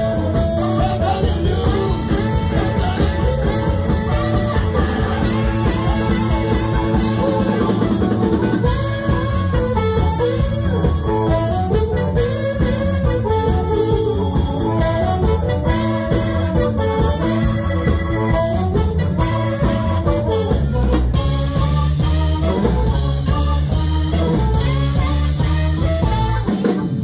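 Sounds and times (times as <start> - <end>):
live blues band playing: 0.0 - 27.0.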